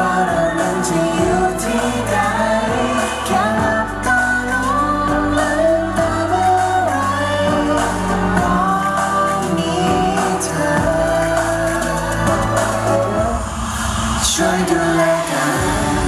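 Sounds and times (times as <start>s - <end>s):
instrumental backing track: 0.0s - 13.6s
man singing pop song: 0.0s - 16.0s.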